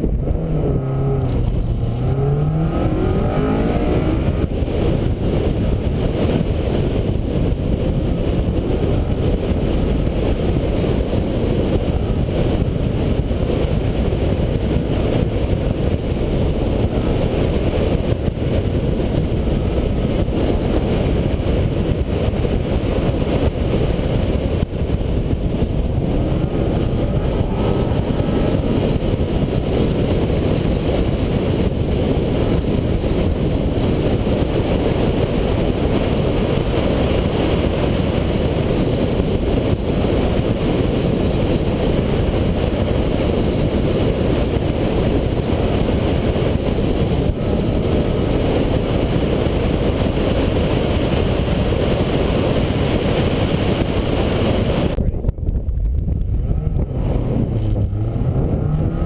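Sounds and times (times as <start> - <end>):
car engine: 0.0 - 59.0
road noise: 0.0 - 59.0
wind buffeting microphone: 0.0 - 59.0.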